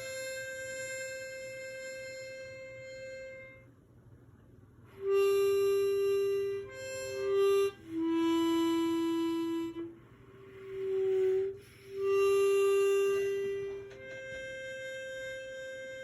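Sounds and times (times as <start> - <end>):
slow melody of long notes: 0.0 - 3.8, 4.9 - 16.0.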